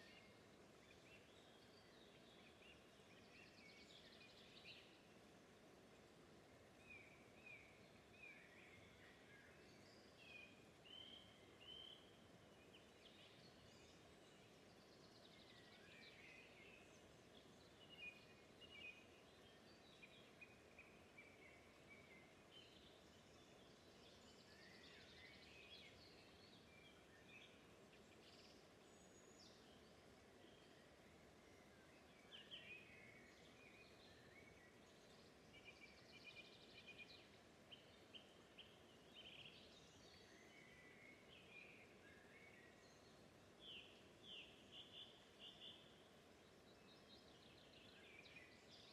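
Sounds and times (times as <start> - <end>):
outdoor ambience hiss: 0.0 - 48.9.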